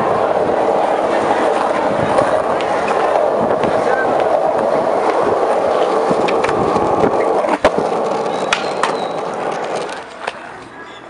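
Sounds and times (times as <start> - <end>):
skateboard clack: 0.0 - 11.0
skateboard wheels rolling on pavement: 0.0 - 11.0.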